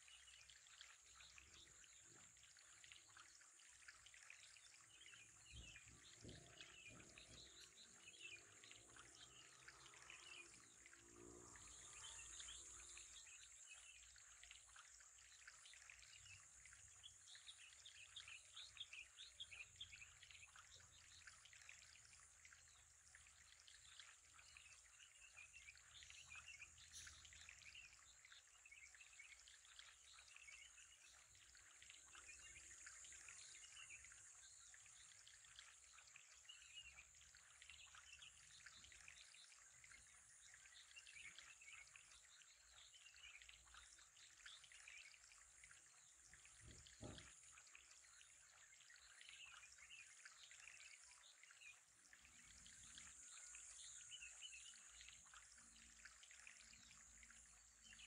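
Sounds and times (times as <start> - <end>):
faint trickling water: 0.0 - 58.0.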